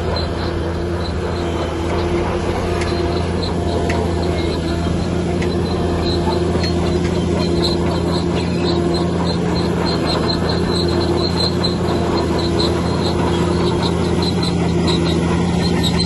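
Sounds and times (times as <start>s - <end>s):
bulldozer engine running: 0.0s - 16.0s
short high-pitched squeaks: 0.0s - 16.0s.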